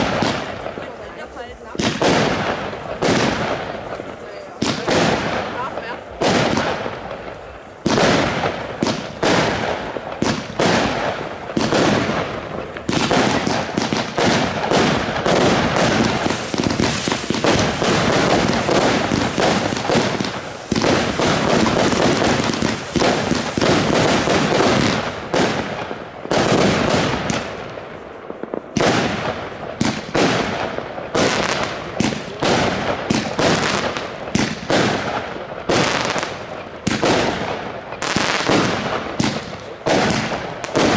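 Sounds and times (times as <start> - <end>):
firework bangs: 0.0 - 40.9
firework crackle: 0.0 - 40.9.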